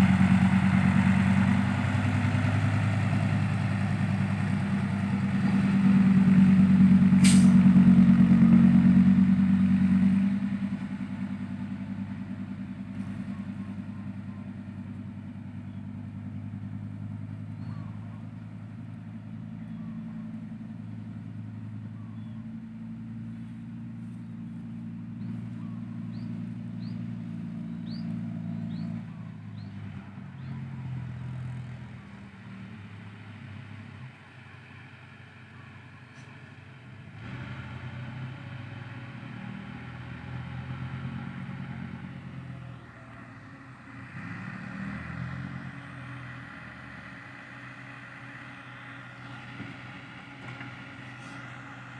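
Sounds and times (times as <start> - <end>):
heavy diesel engine running: 0.0 - 35.4, 39.0 - 51.9.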